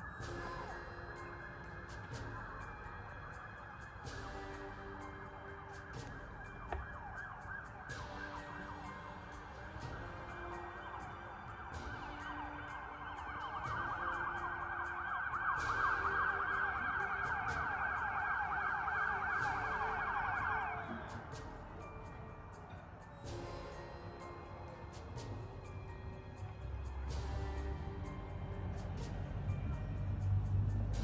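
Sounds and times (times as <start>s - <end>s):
chorus of howling: 0.0s - 29.9s.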